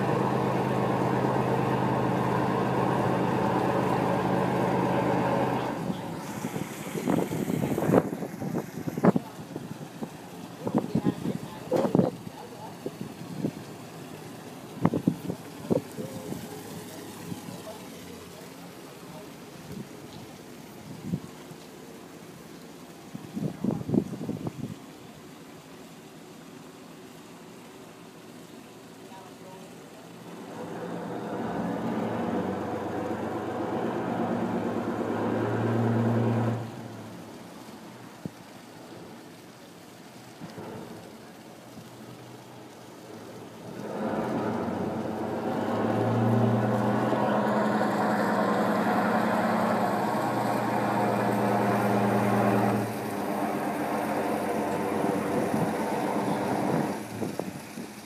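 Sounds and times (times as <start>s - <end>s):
boat engine running: 0.0s - 19.7s, 30.1s - 39.4s, 40.4s - 58.0s
water splashing: 0.0s - 58.0s.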